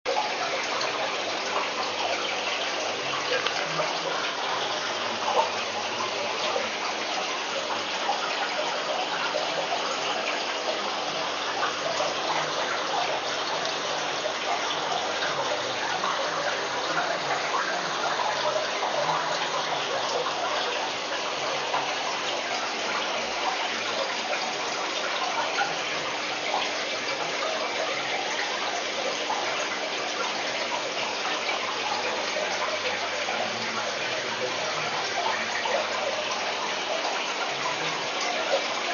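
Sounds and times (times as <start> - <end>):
running and splashing water: 0.0 - 38.9.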